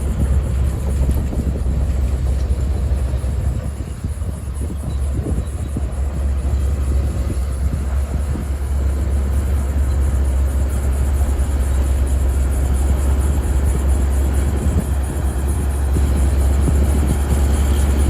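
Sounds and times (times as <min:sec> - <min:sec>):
diesel engine low drone: 0:00.0 - 0:18.0.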